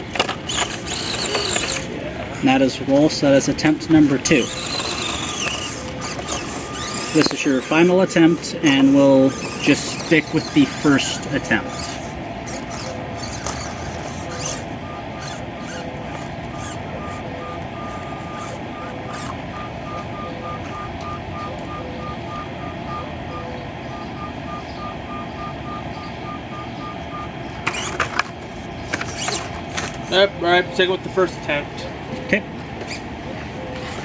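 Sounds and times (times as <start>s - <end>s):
electric motor whining in pulses: 0.0s - 30.2s.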